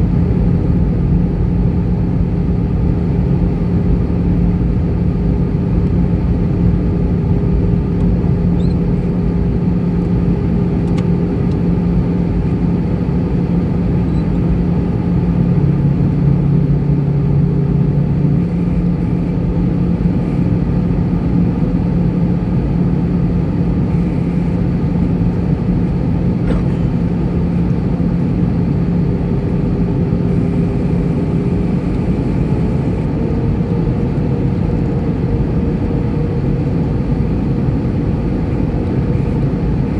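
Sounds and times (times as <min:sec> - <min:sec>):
jet engine hum: 0:00.0 - 0:39.9.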